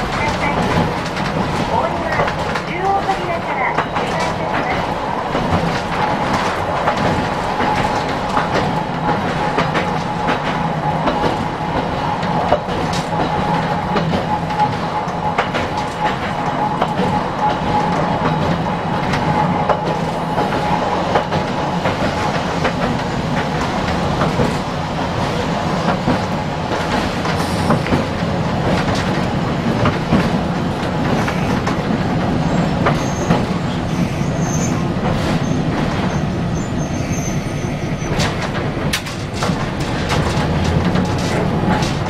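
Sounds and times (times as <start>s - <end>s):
tram running rumble: 0.0s - 42.0s
wheels clicking on rails: 0.0s - 42.0s.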